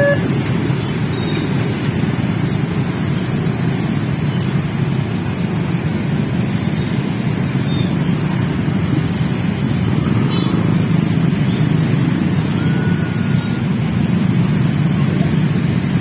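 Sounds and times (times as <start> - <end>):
motorcycle and car engines rumbling: 0.0 - 16.0.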